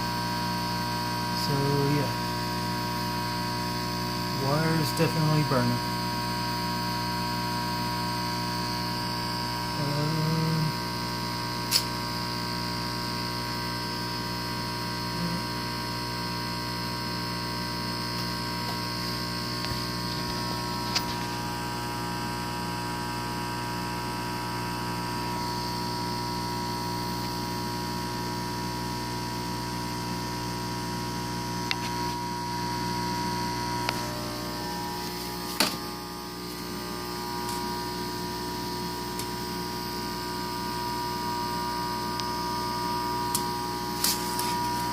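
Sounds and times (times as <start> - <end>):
stalled fan motor humming: 0.0 - 11.8, 17.9 - 44.9.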